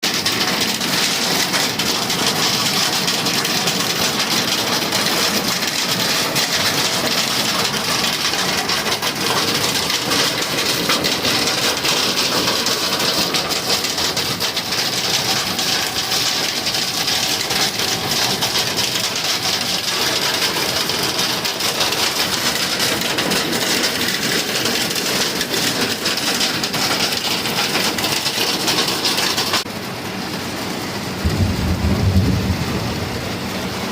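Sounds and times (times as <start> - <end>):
hail and rain pelting: 0.0 - 33.9.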